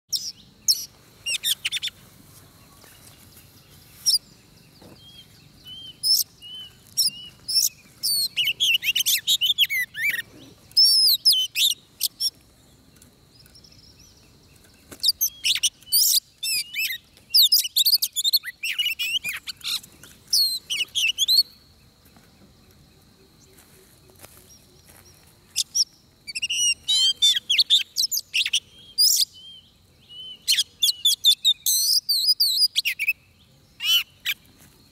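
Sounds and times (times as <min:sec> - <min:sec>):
bird whistling song: 0:00.1 - 0:02.0, 0:03.6 - 0:12.4, 0:13.4 - 0:21.7, 0:25.0 - 0:34.4.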